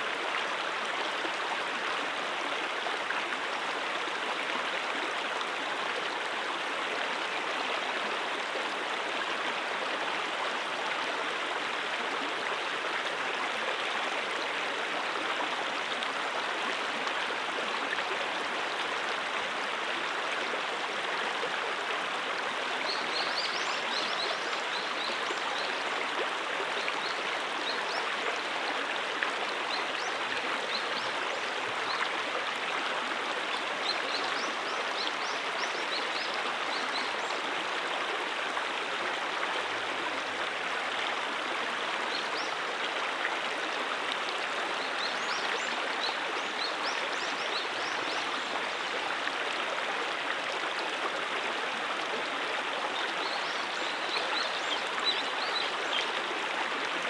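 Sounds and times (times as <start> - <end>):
brook water babbling: 0.0 - 57.0.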